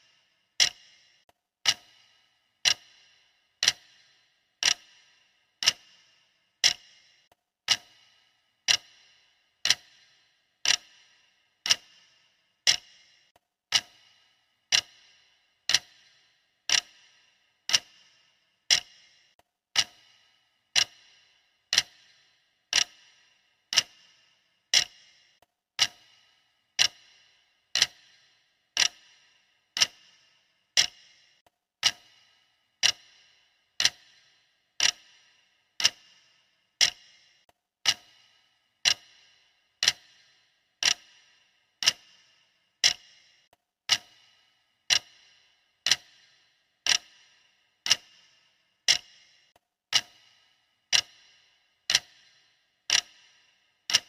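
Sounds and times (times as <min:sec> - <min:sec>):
timer ticking with ring: 0:00.0 - 0:54.0.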